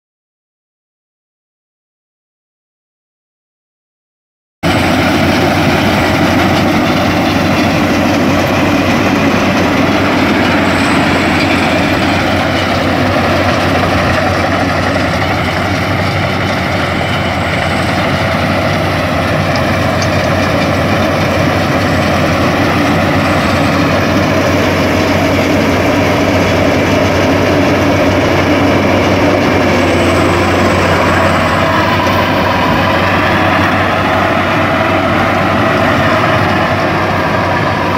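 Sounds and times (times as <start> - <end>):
combine harvester drone: 4.6 - 37.9.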